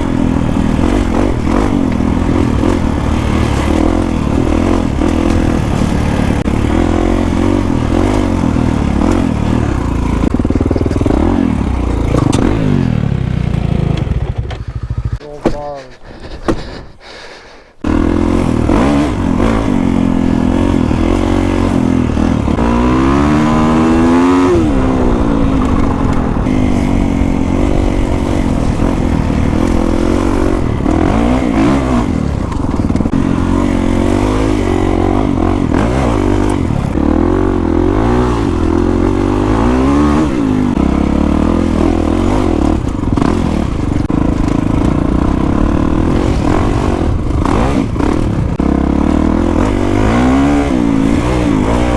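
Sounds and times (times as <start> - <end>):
dirt bike engine revving: 0.0 - 16.6, 17.8 - 51.9.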